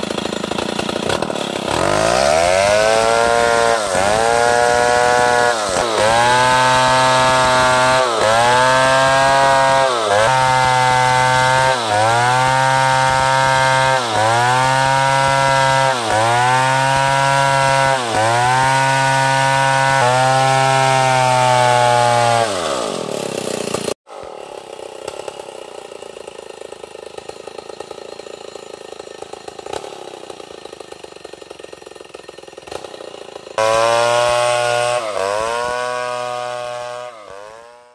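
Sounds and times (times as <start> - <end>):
chainsaw cutting through log: 0.0 - 37.9.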